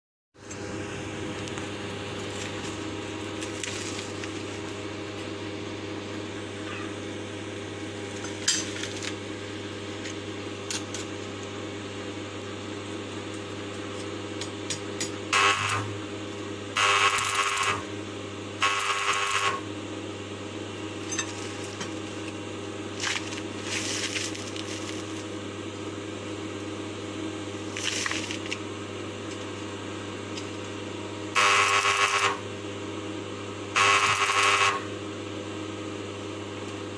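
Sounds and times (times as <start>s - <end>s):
steady mechanical hum: 0.4s - 36.9s.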